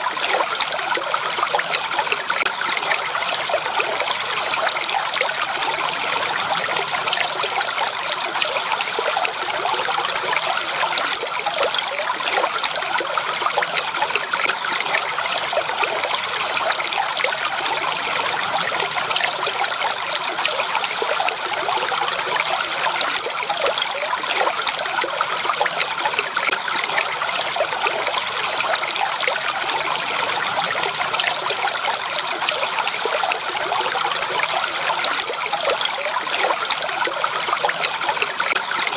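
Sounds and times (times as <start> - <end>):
stream water trickling and splashing: 0.0 - 38.9.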